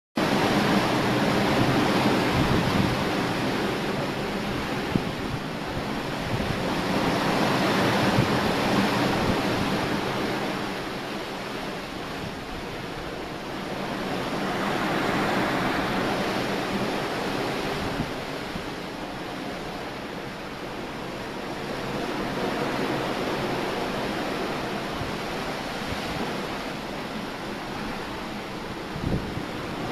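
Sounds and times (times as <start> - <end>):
water rushing against hull: 0.2 - 29.9
wind: 0.2 - 29.9.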